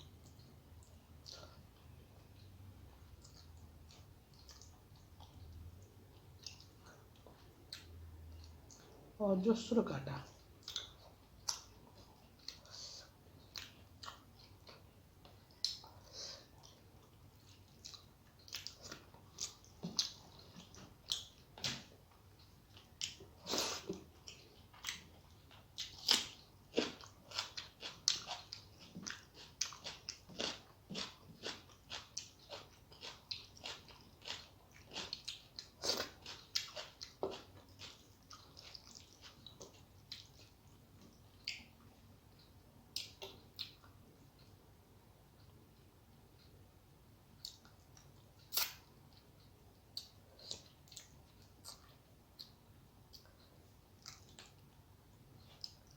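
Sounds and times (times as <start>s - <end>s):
person chewing and eating: 0.0s - 9.1s, 10.3s - 44.7s, 47.4s - 55.9s.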